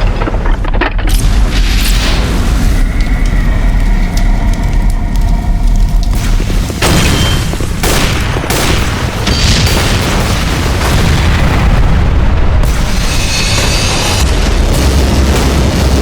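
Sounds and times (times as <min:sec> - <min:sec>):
booming explosions: 0:00.0 - 0:16.0
deep rumble: 0:00.0 - 0:16.0.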